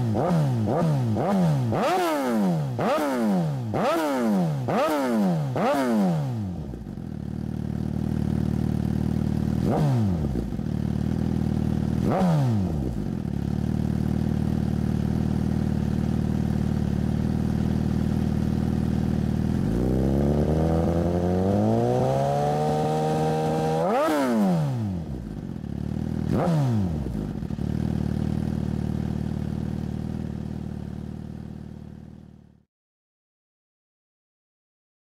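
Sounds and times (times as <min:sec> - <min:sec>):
motorcycle engine revving and idling: 0:00.0 - 0:32.7.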